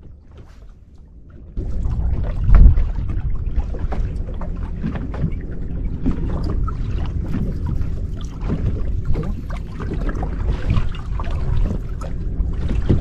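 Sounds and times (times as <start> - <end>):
low rumble: 0.0 - 13.0
waves lapping against boat hull: 0.0 - 13.0.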